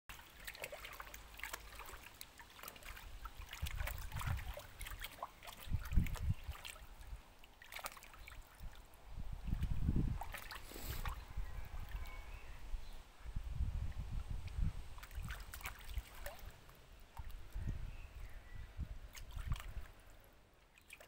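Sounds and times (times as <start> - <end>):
water splashing in a pool: 0.1 - 12.2, 13.8 - 17.9, 19.0 - 21.0.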